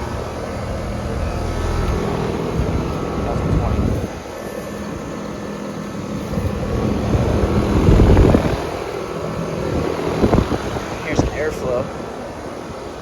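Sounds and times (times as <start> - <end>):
air conditioner units running: 0.0 - 13.0.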